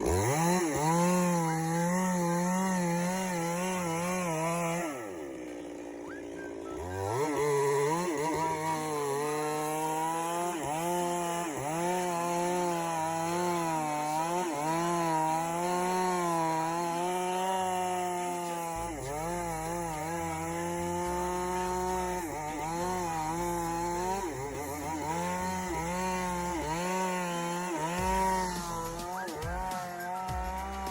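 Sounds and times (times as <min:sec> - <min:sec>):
chainsaw cutting timber: 0:00.0 - 0:30.9.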